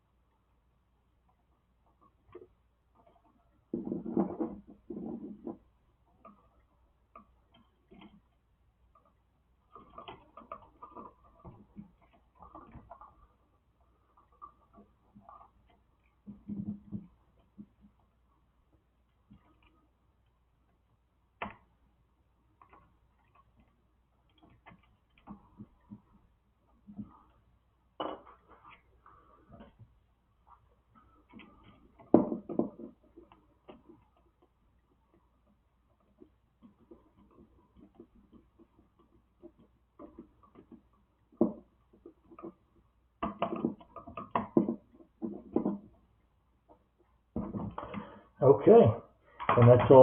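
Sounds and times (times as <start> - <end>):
clicks and knocks of handling wires: 1.9 - 13.4, 14.2 - 18.1, 19.1 - 20.8, 22.6 - 48.1.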